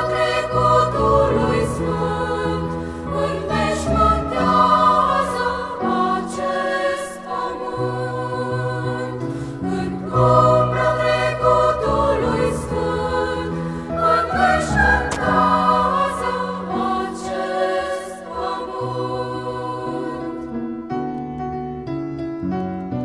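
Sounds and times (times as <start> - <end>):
women's choir singing: 0.0 - 20.7.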